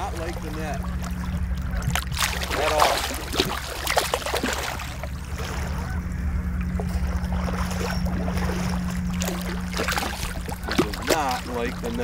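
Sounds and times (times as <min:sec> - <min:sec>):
fish splashing in shallow water: 0:00.0 - 0:12.0
low rumble and hum: 0:00.0 - 0:12.0.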